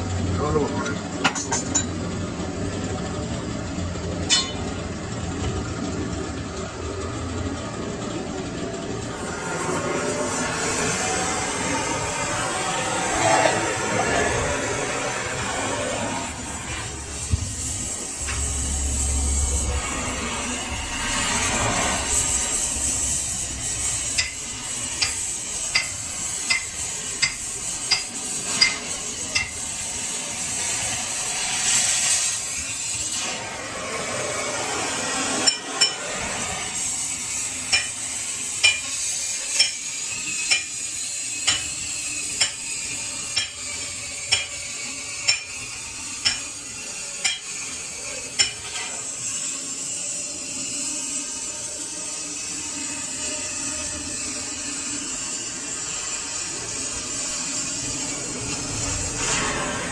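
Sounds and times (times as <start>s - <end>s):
steady hiss: 9.1s - 59.9s.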